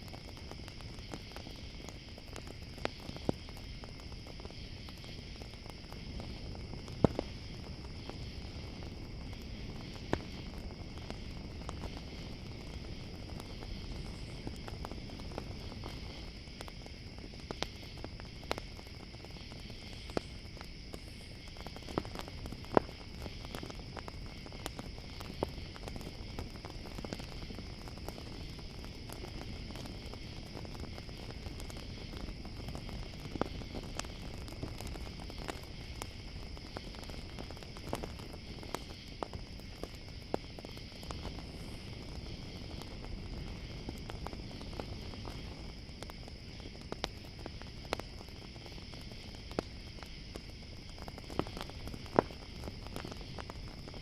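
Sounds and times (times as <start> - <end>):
campfire crackling and popping: 0.0 - 54.0
crickets chirring: 0.0 - 54.0.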